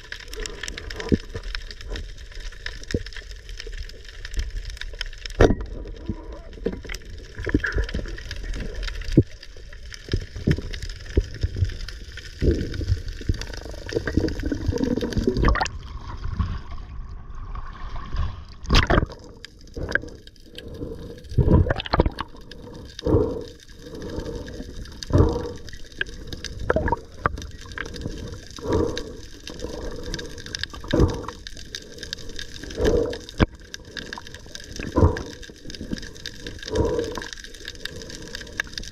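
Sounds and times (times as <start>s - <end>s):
muffled underwater water noise: 0.0s - 38.9s.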